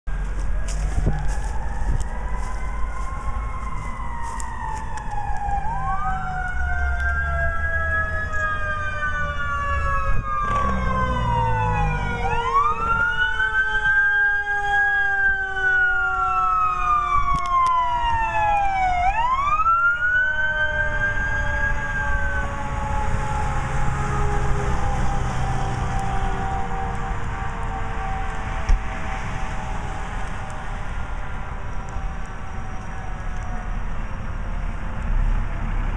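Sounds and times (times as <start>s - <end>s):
emergency sirens wailing: 0.1s - 35.9s.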